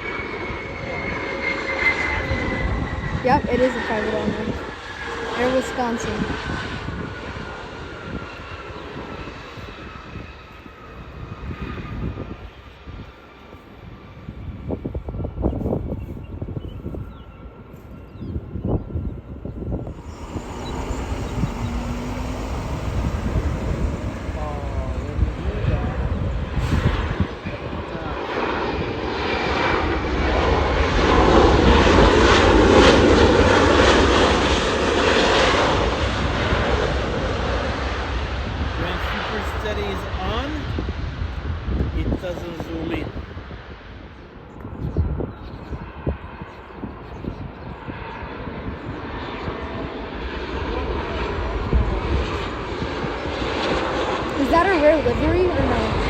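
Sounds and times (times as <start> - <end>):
jet airliner passing: 0.0 - 16.6, 18.3 - 56.0.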